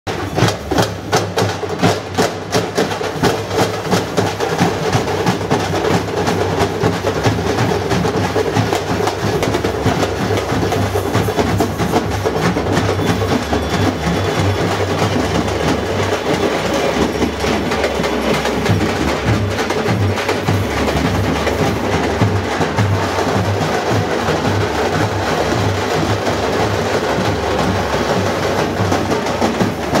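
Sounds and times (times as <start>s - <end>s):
drums playing loud rhythm: 0.1s - 30.0s.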